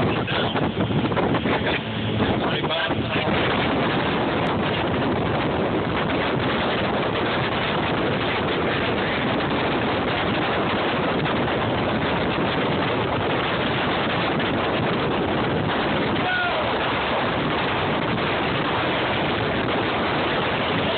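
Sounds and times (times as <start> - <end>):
strong wind on microphone: 0.0 - 20.9.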